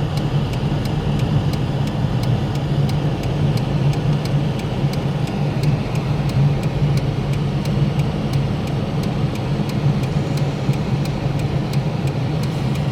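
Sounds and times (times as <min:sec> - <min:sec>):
vehicle engine and road noise: 0:00.0 - 0:12.9
faint regular ticking: 0:00.1 - 0:12.9.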